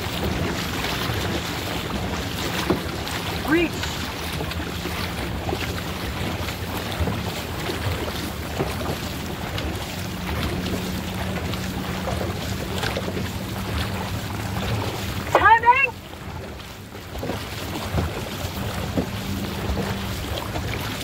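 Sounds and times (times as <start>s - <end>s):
paddles splashing in water: 0.0s - 21.0s
water rushing along hull: 0.0s - 21.0s.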